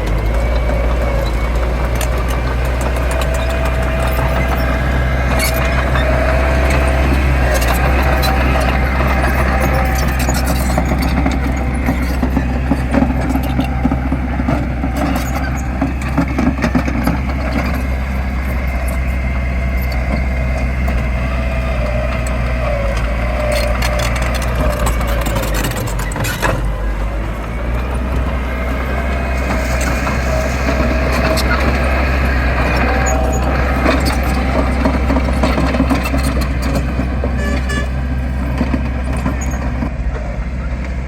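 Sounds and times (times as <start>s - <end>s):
diesel machinery engine drone: 0.0s - 41.0s.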